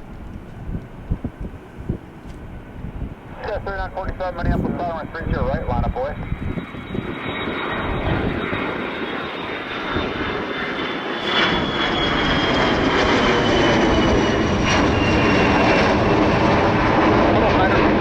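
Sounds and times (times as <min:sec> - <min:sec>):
jet engines passing: 0:00.0 - 0:18.0.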